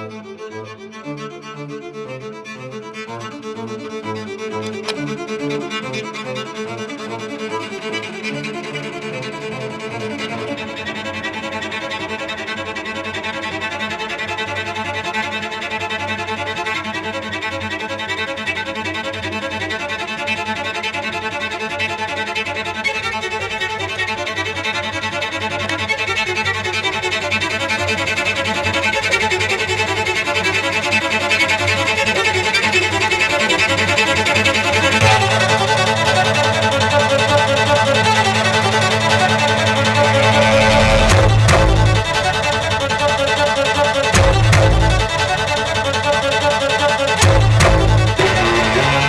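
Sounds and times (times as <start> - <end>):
violin background music: 0.0 - 25.2, 27.3 - 49.0.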